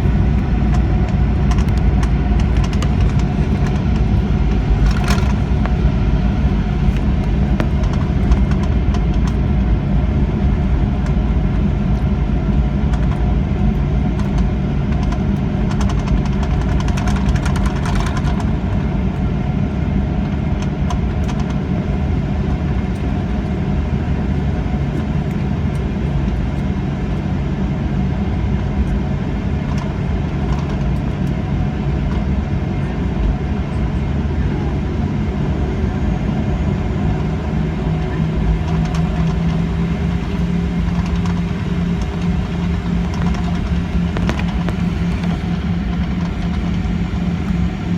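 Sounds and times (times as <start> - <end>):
jet engine rumble in cabin: 0.0 - 47.9
low steady hum: 0.0 - 47.9.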